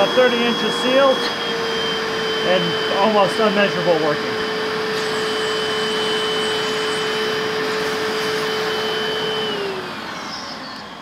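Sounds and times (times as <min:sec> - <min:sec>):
vacuum motor whining: 0:00.0 - 0:11.0.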